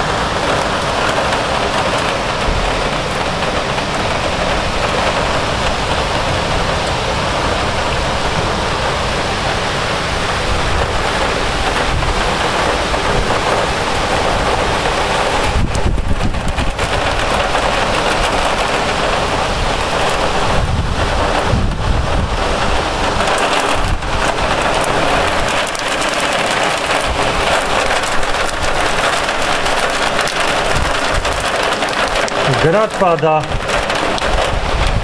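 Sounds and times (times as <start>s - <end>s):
heavy rain and hail: 0.0s - 35.0s
low rumbling: 0.0s - 35.0s.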